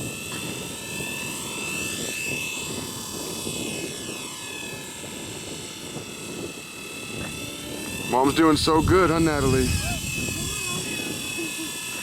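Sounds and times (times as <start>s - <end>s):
rc helicopter rotor whine: 0.0s - 12.0s.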